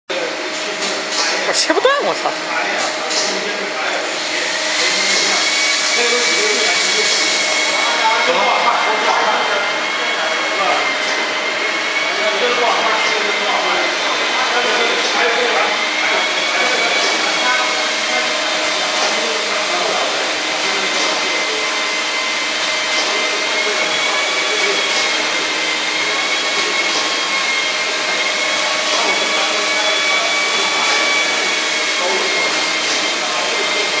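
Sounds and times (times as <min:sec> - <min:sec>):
packing machine whirring: 0:00.4 - 0:34.0.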